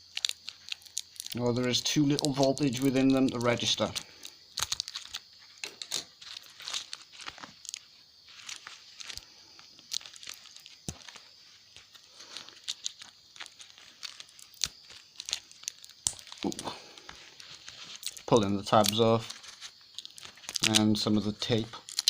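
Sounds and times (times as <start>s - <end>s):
tape crinkling and tearing: 0.0s - 22.0s.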